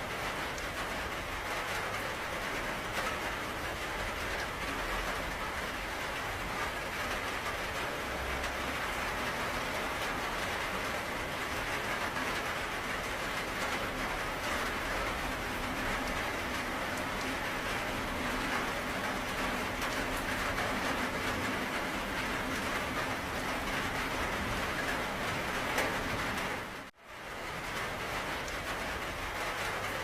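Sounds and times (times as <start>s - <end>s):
dense rainfall: 0.0s - 30.0s.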